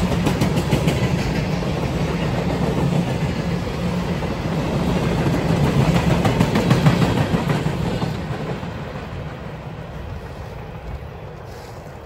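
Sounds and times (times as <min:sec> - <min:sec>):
freight train rolling past: 0:00.0 - 0:12.0
wheels clicking over rail joints: 0:00.0 - 0:12.0.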